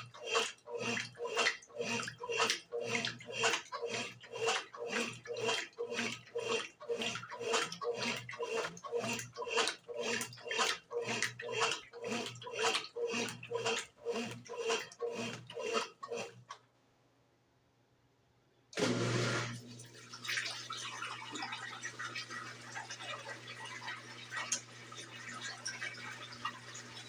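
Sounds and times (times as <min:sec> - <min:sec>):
washing machine sloshing: 0:00.0 - 0:16.6, 0:18.8 - 0:27.0.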